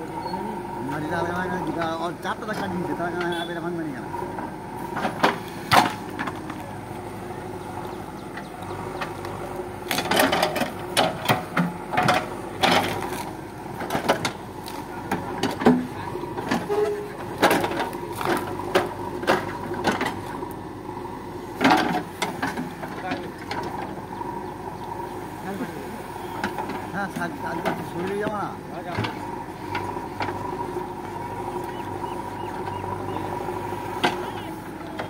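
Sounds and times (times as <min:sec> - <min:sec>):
diesel engine running under load: 0:00.0 - 0:35.0.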